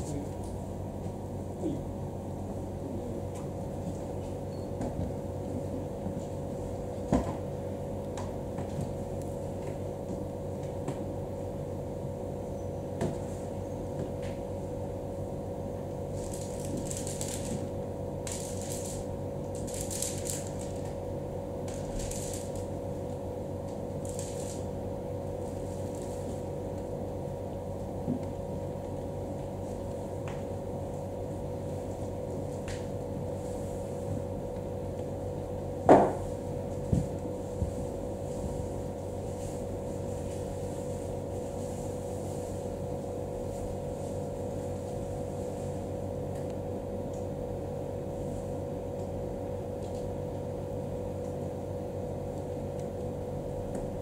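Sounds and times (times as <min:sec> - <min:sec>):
room hum: 0:00.0 - 0:54.0.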